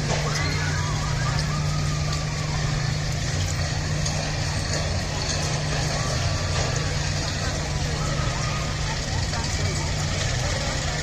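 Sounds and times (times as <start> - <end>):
faint distant voices: 0.0 - 11.0
low machinery hum: 0.0 - 11.0.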